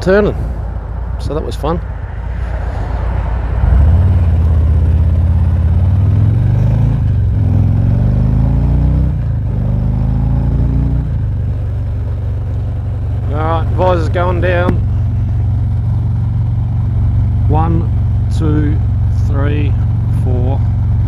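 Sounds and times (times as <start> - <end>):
motorcycle engine accelerating: 3.6 - 21.0.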